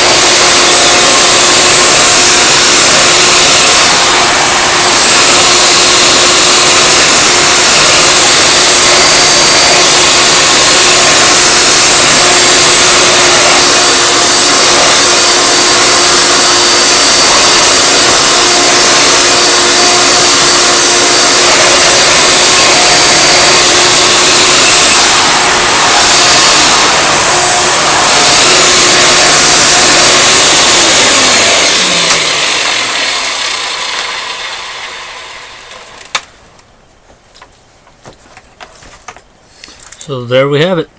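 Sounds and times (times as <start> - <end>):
vacuum motor running: 0.0 - 36.3.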